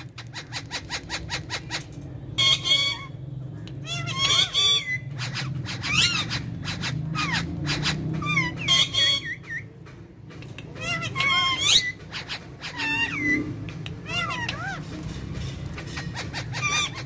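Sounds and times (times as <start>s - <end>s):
parakeets squawking and whistling: 0.0s - 17.0s.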